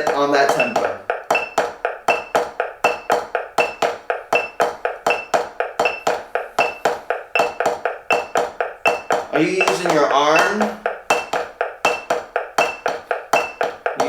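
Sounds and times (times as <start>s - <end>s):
drumsticks on practice pad: 0.0s - 14.0s
metronome beeps: 0.0s - 14.0s.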